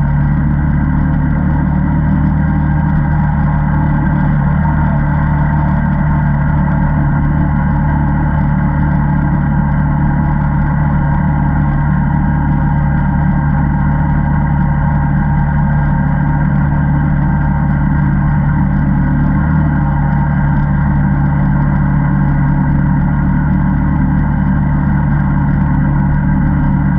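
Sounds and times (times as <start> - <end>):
atv engine droning: 0.0 - 26.9.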